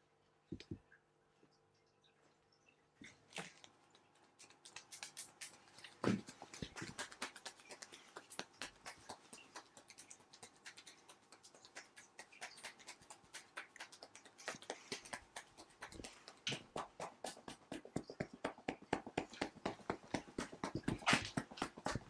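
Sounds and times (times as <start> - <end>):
rhythmic hand tapping massage: 4.0 - 22.0.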